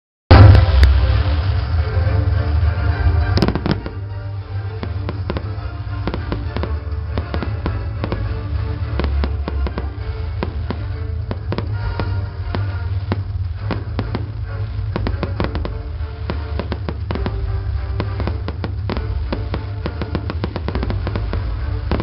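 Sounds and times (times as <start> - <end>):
firecrackers going off: 0.3 - 22.0
music with heavy bass: 0.3 - 22.0.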